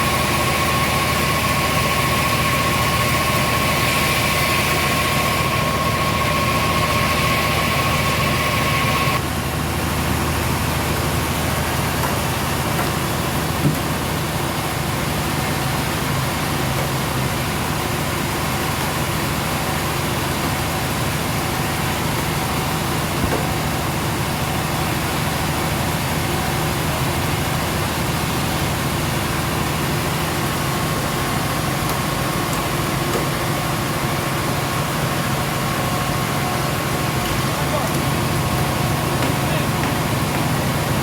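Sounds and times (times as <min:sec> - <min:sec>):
sawmill machinery drone: 0:00.0 - 0:41.0.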